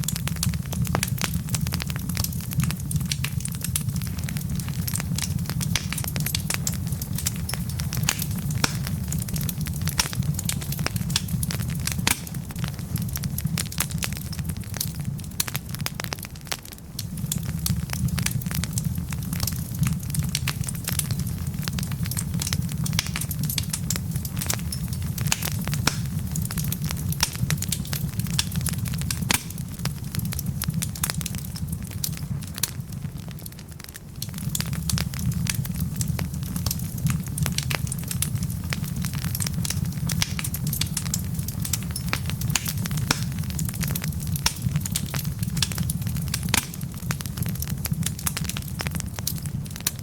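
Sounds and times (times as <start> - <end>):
low rumble of flame: 0.0 - 50.0
wood crackling and popping: 0.0 - 50.0.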